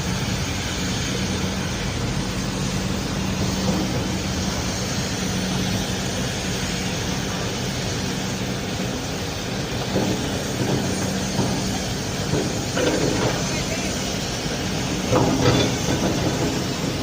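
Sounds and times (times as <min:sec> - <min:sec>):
machinery drone: 0:00.0 - 0:17.0.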